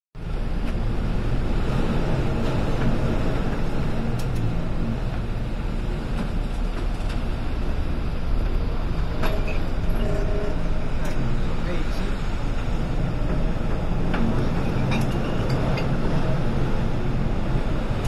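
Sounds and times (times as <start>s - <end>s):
rough sea: 0.2s - 18.0s
storm wind: 0.2s - 18.0s.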